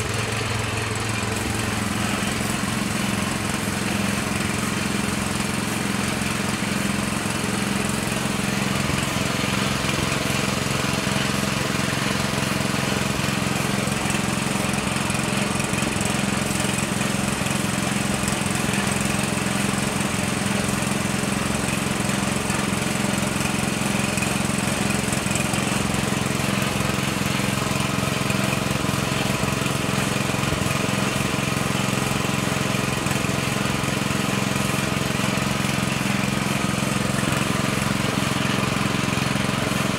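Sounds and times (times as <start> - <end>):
spray gun hissing: 0.0 - 39.8
air compressor motor hum: 0.0 - 39.9.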